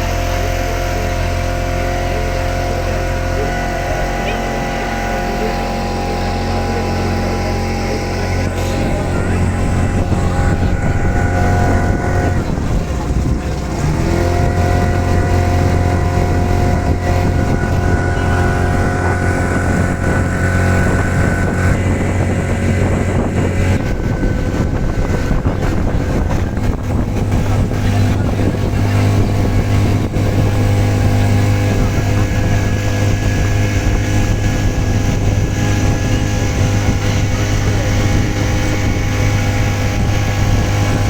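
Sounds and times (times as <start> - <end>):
motorboat engine droning: 0.0 - 41.0.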